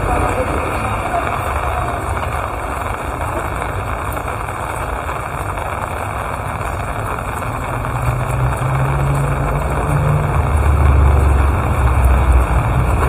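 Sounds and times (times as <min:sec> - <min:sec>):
low rumble: 0:00.0 - 0:13.0
steady rain falling: 0:00.0 - 0:13.0.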